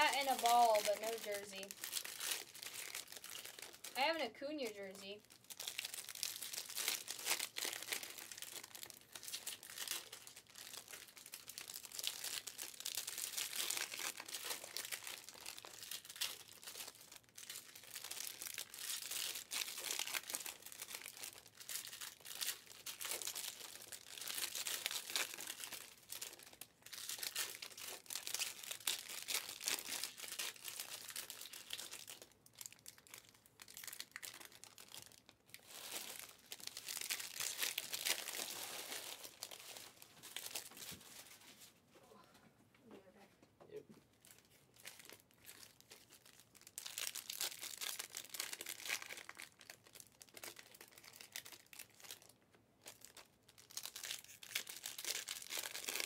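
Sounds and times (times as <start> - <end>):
card pack wrappers crinkling: 0.0 - 41.6, 44.2 - 56.0.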